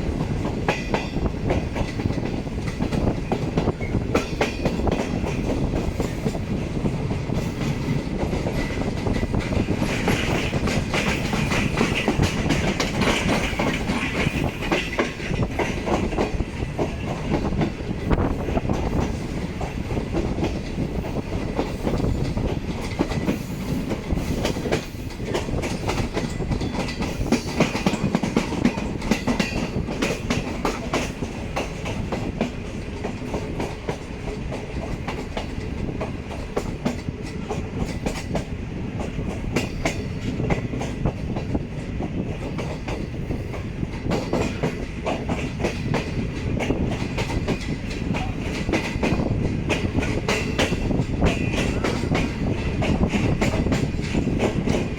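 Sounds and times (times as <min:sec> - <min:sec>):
train wheels clattering over rail joints: 0:00.0 - 0:54.9.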